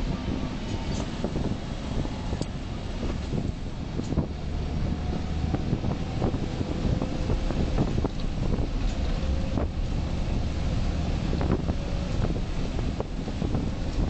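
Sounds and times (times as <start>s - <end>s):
cab and tyre rattles: 0.0s - 14.0s
diesel truck engine drone: 0.0s - 14.0s.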